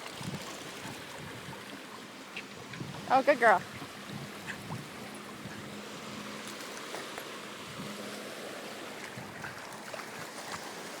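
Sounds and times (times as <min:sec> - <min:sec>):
faint water splashes: 0:00.0 - 0:11.0
lake waves lapping at shore: 0:00.0 - 0:11.0.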